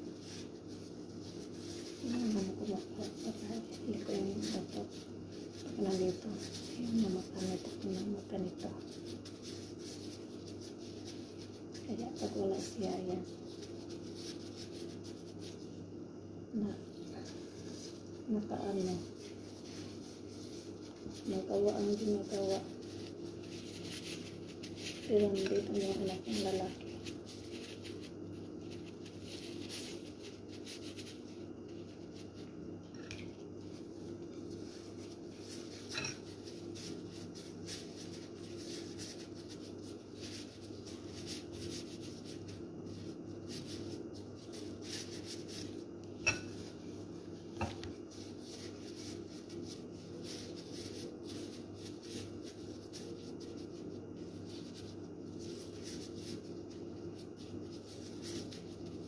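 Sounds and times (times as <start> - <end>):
gloved hands rubbing food: 0.0 - 15.9, 16.6 - 59.0.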